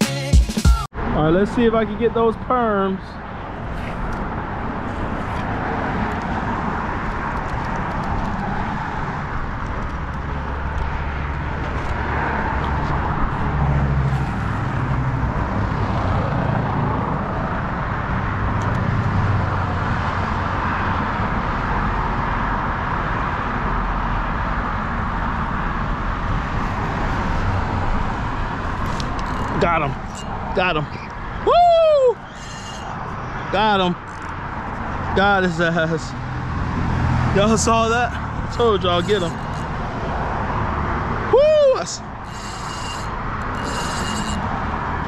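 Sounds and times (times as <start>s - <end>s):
highway traffic noise: 0.8s - 45.0s.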